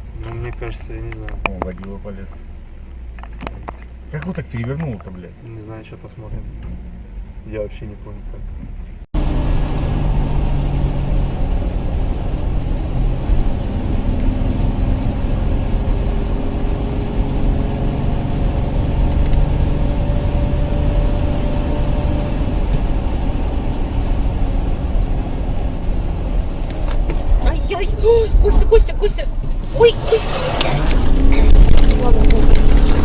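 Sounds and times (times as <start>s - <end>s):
tyre road noise: 0.0s - 33.0s
vehicle engine hum: 0.0s - 33.0s.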